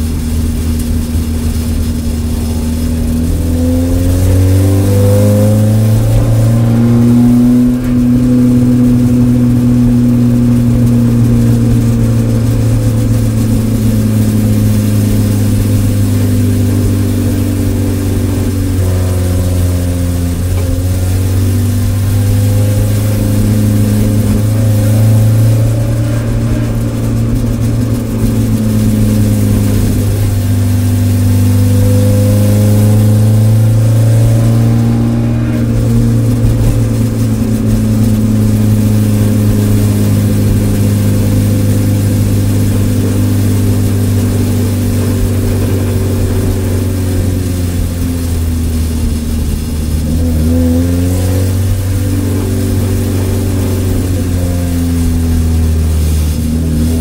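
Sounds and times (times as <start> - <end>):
car engine droning at low revs: 0.0 - 57.0.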